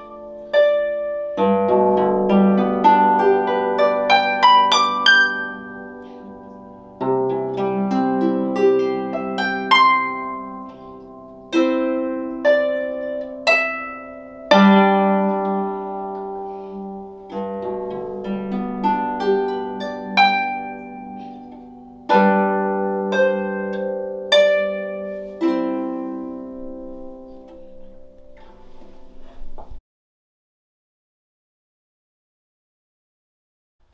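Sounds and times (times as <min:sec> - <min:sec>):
harp being plucked: 0:00.0 - 0:29.8.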